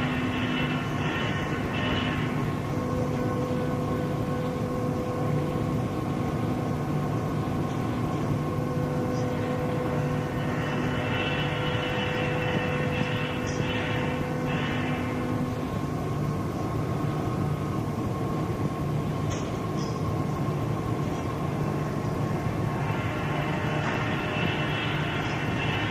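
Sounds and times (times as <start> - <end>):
steady mechanical drone: 0.0 - 25.9.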